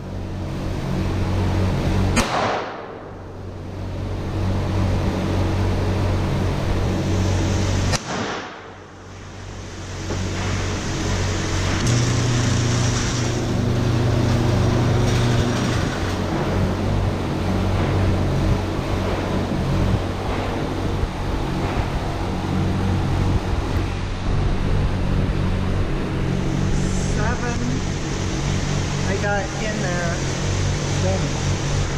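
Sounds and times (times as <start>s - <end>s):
road noise: 0.0s - 31.9s
vehicle engine hum: 0.0s - 31.9s.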